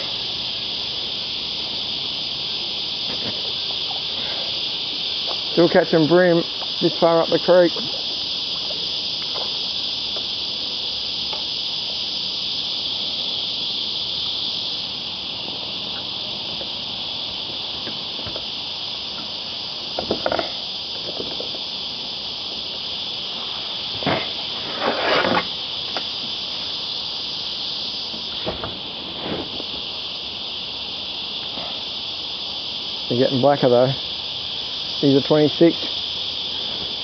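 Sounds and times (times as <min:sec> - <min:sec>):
cicada chorus buzzing: 0:00.0 - 0:37.0.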